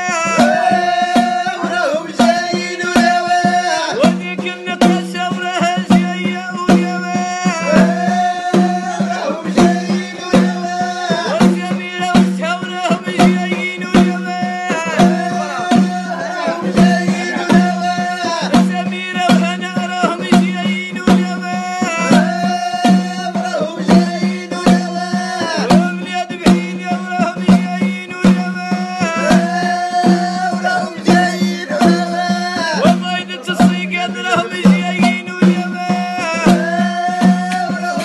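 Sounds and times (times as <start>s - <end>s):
hand drum strokes: 0.0s - 38.0s
man singing: 0.0s - 38.0s.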